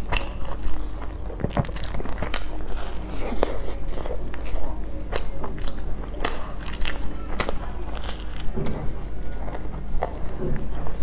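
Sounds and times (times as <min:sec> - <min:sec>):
wet chewing with mouth clicks: 0:00.0 - 0:11.0.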